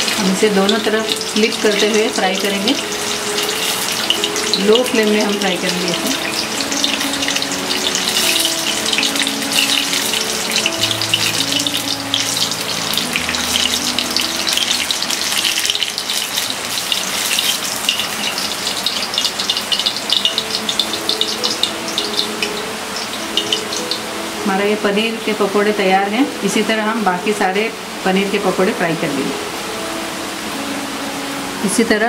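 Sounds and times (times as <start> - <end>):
food deep-frying in oil: 0.0 - 29.8.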